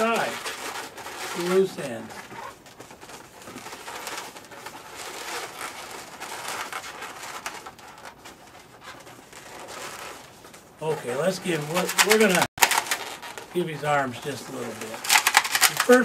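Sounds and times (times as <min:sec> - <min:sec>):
balloons rubbing and squeaking: 0:00.0 - 0:16.0.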